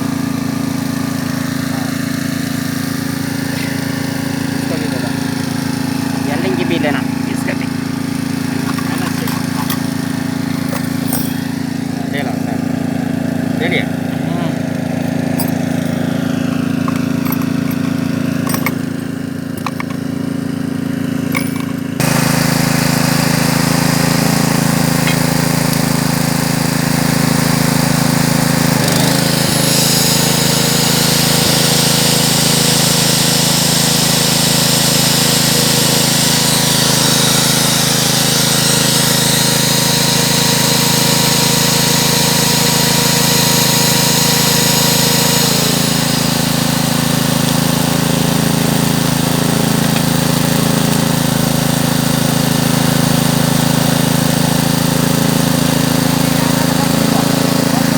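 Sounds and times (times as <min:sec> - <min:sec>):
drill motor running: 0:00.0 - 0:57.9.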